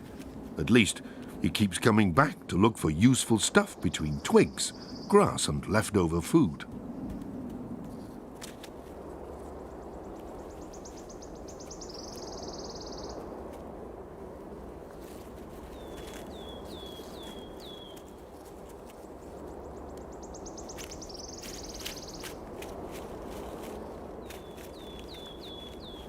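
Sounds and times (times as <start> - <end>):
low outdoor ambience: 0.0 - 26.0.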